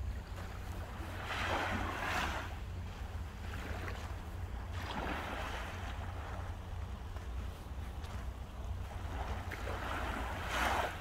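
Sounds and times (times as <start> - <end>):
steady low rumble: 0.0 - 11.0
waves washing up a beach: 0.0 - 11.0.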